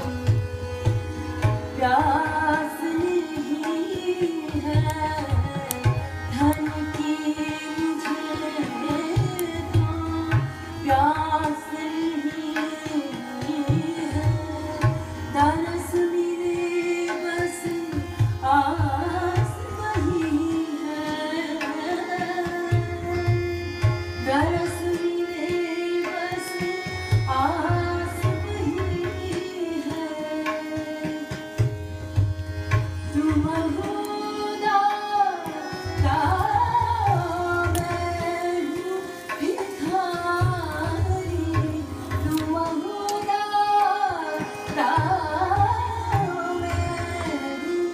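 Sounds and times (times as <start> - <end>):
person singing: 1.7 - 31.6, 33.1 - 47.9.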